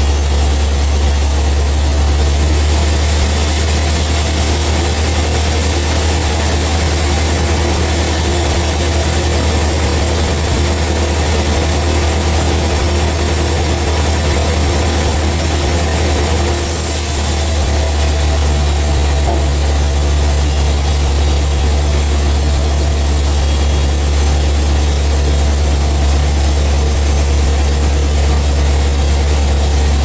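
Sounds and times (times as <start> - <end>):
heavy machinery engine drone: 0.0 - 30.0.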